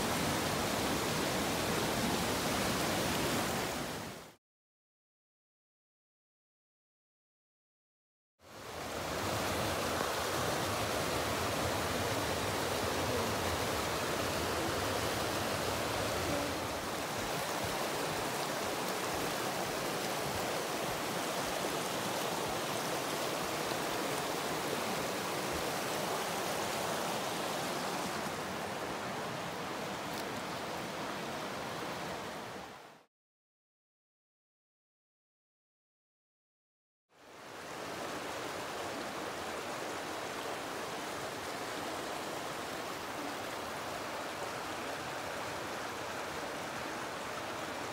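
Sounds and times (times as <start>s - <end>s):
stream rushing over boulders: 0.0s - 4.4s, 8.4s - 33.1s, 37.2s - 47.9s.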